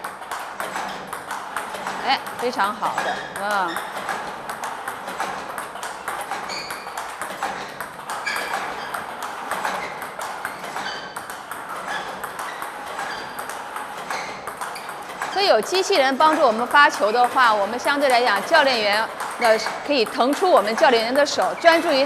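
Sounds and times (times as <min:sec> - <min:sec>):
ping-pong balls clicking: 0:00.0 - 0:22.0.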